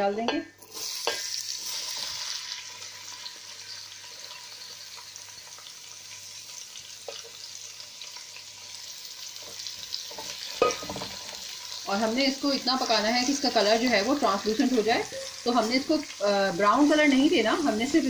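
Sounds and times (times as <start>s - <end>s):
onions sizzling in hot oil: 0.6s - 18.0s.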